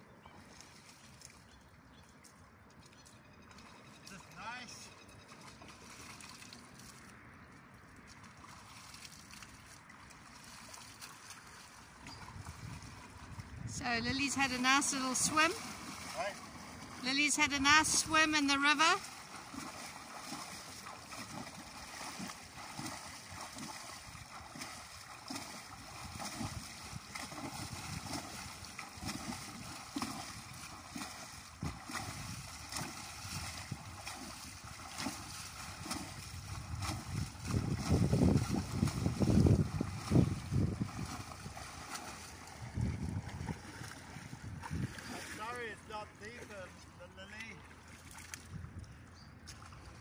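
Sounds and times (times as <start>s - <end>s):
hoof splashing in water: 0.0s - 50.0s
river water washing: 3.6s - 48.5s.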